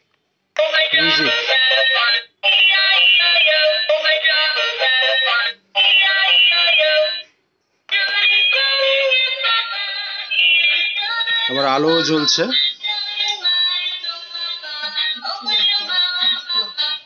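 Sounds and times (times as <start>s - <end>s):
toy playing synthesized children's song: 0.6s - 7.3s, 7.9s - 17.0s.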